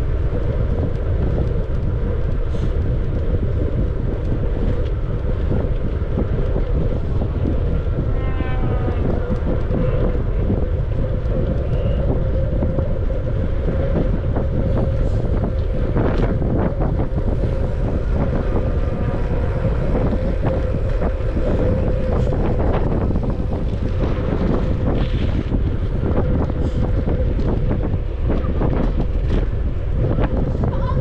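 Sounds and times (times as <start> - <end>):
steady hum: 0.0 - 31.0
wind buffeting microphone: 0.0 - 31.0.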